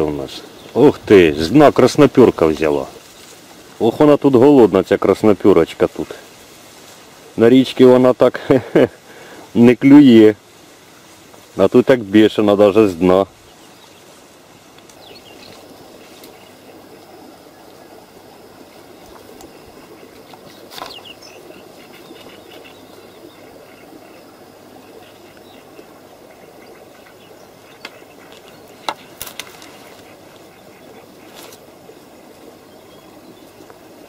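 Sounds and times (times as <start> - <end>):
steady rustle: 0.2 - 8.1, 9.0 - 17.2, 18.4 - 32.2.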